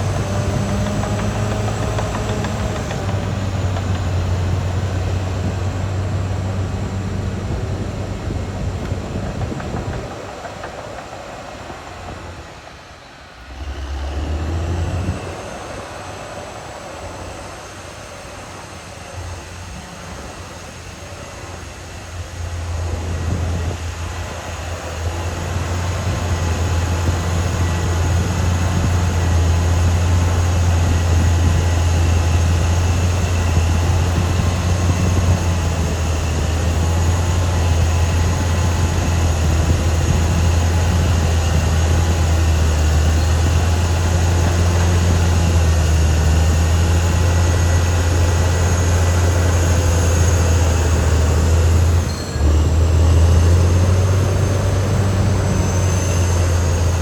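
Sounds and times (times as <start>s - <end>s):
bulldozer diesel engine droning: 0.0s - 57.0s
high machine whines: 0.0s - 57.0s.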